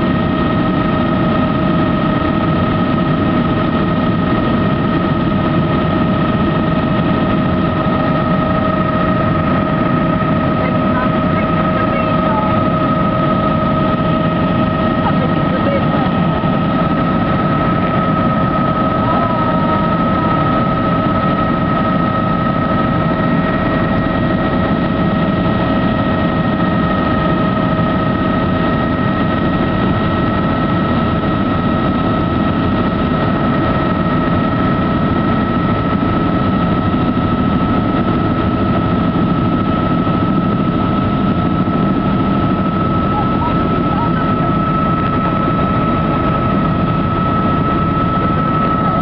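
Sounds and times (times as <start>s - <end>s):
helicopter engine and rotor noise: 0.0s - 49.0s.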